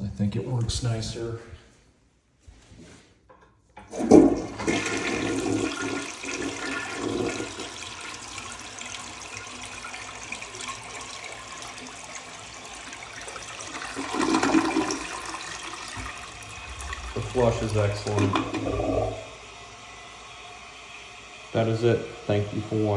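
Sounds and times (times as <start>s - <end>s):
toilet flushing: 3.8s - 22.9s.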